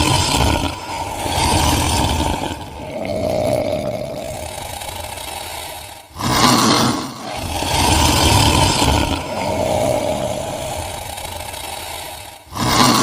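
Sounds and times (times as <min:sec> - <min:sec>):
monster roars: 0:00.0 - 0:13.0.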